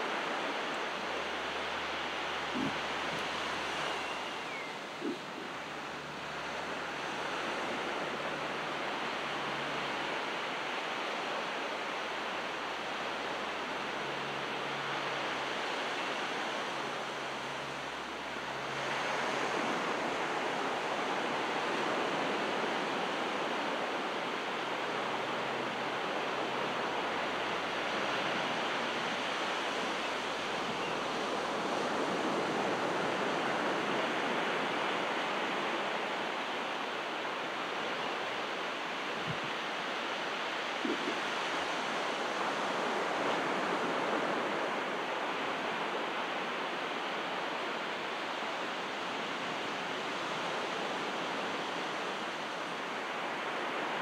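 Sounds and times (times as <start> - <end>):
small waves breaking on shore: 0.0 - 54.0.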